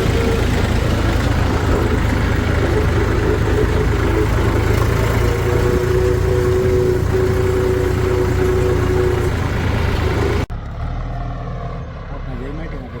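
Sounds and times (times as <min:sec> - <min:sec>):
diesel engine rumbling: 0:00.0 - 0:13.0
engine whine: 0:00.0 - 0:13.0.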